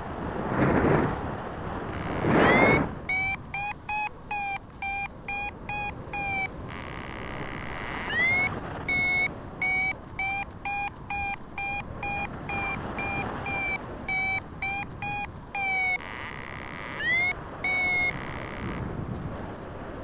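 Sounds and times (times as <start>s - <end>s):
wind noise: 0.0s - 20.0s
variometer beeping: 2.0s - 18.9s.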